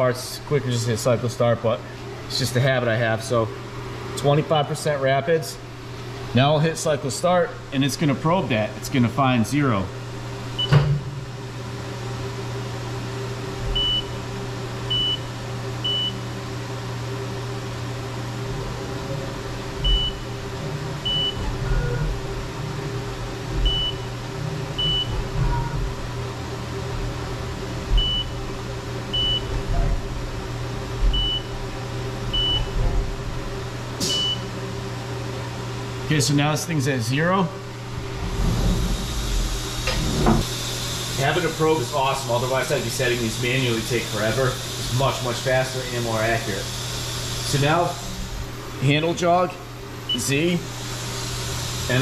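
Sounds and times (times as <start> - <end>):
machine hum: 0.0 - 52.0.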